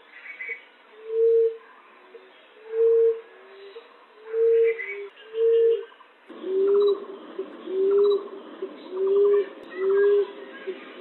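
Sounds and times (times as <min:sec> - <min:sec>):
dove cooing: 0:01.0 - 0:01.6, 0:02.2 - 0:11.0.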